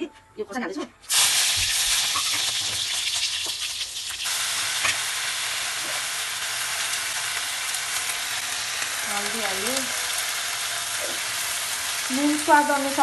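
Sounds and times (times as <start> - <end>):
hot oil sizzling: 1.0 - 13.0.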